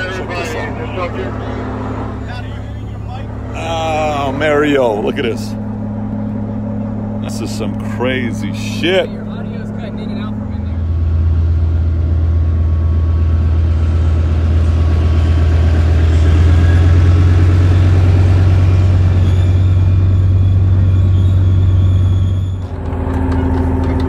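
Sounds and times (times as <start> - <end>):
tank engine droning: 0.0 - 24.0.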